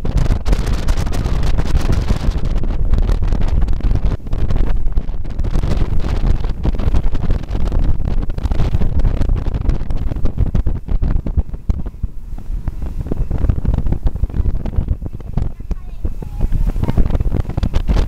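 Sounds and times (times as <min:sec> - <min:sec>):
boat running noise: 0:00.0 - 0:18.0
wind buffeting microphone: 0:00.0 - 0:18.0.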